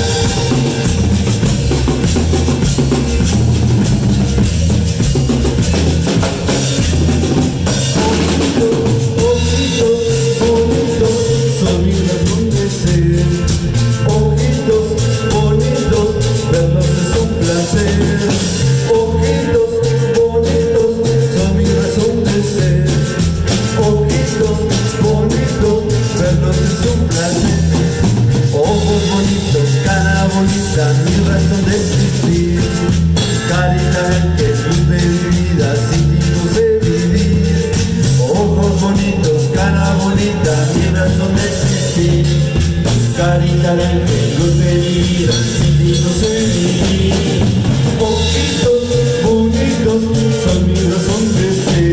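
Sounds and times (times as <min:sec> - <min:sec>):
cumbia band music: 0:00.0 - 0:51.9.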